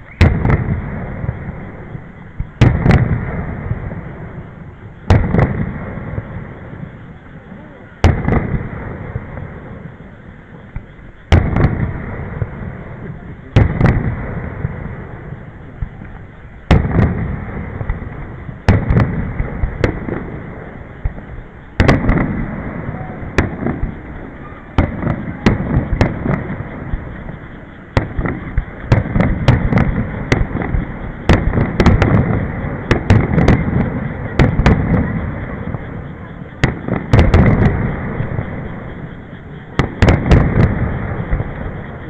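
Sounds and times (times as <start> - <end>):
firework bangs: 0.0 - 42.0
rolling rumble: 0.0 - 42.0.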